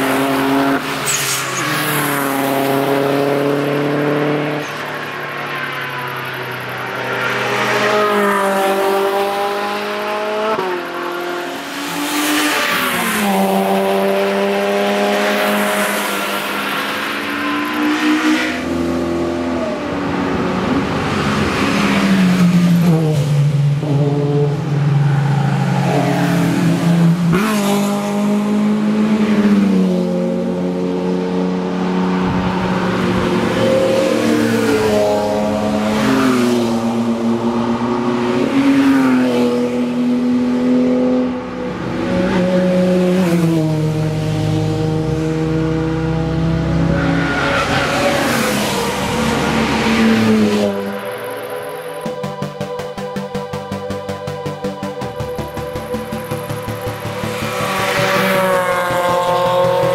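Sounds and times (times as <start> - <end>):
sports cars revving past: 0.0 - 59.9.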